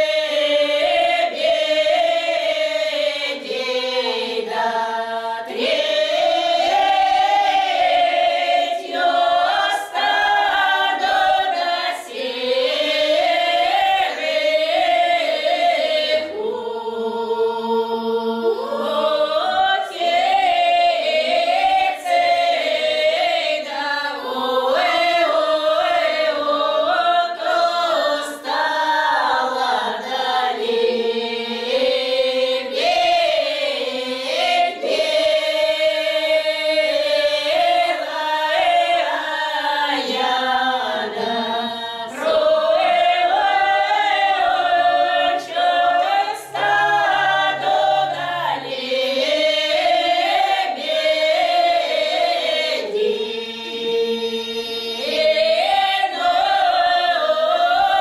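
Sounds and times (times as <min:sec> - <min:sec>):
women singing unaccompanied in chorus: 0:00.0 - 0:58.0.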